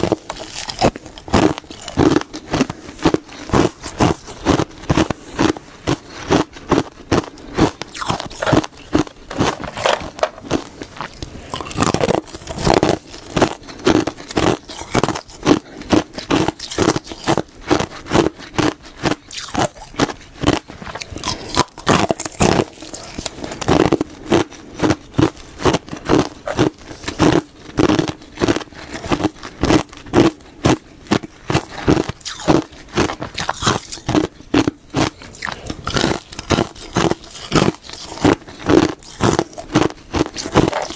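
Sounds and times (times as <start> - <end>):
ice crunching in mouth: 0.0 - 40.9.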